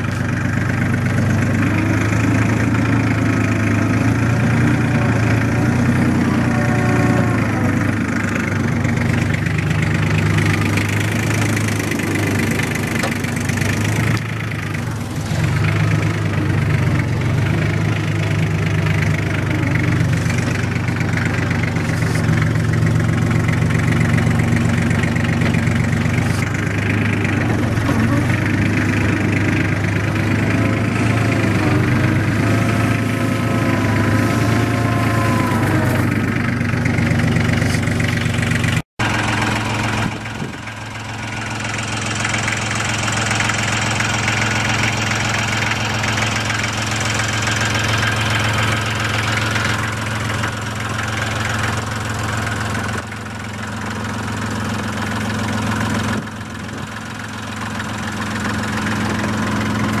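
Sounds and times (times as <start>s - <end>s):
tractor engine running: 0.0s - 60.0s.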